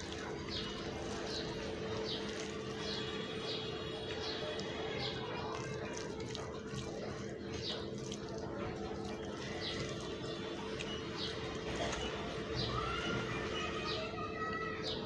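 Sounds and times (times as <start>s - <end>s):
wet squishing of rice by hand: 0.0s - 15.0s.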